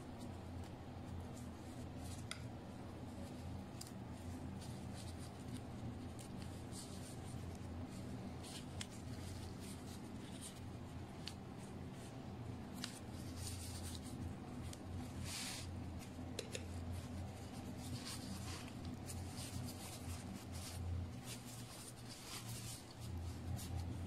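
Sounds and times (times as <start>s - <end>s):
plastic gloves rustling: 0.0s - 24.0s
steady low hum: 0.0s - 24.0s.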